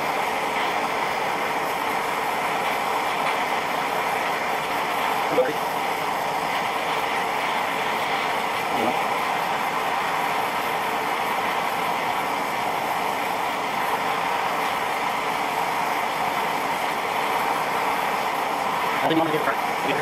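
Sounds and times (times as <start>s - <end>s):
gas burner roaring: 0.0s - 20.0s.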